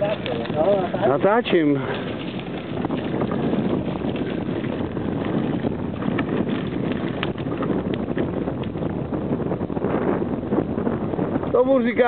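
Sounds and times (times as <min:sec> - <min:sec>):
bicycle tyres on gravel: 0:00.0 - 0:12.0
wind rushing over microphone: 0:00.0 - 0:12.0.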